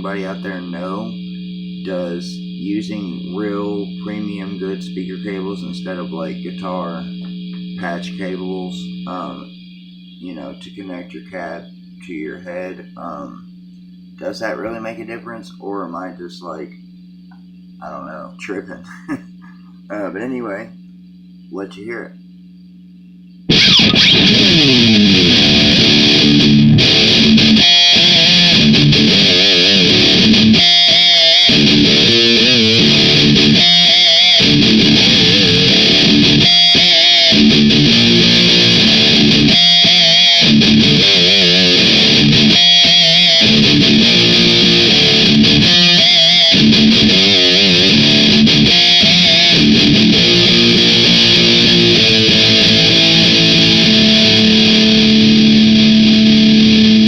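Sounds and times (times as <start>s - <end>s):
distorted electric guitar riff: 0.0s - 22.7s, 23.4s - 57.0s.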